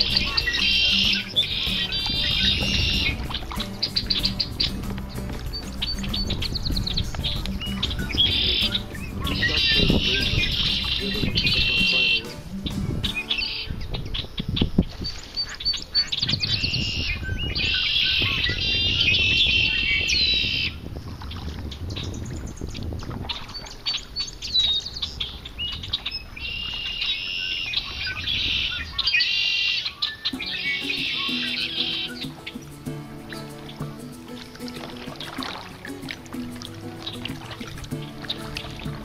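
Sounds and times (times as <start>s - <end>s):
blackbirds singing buzzy trills: 0.0s - 39.0s.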